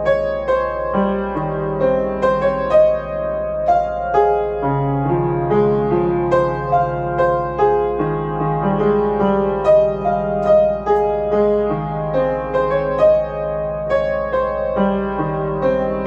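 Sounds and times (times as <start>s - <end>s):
upright piano playing: 0.0s - 16.0s.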